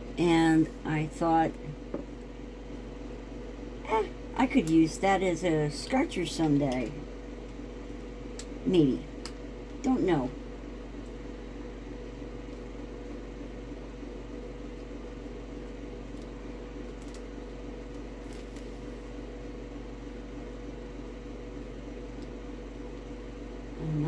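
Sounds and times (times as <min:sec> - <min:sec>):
low appliance hum: 0:00.0 - 0:24.0.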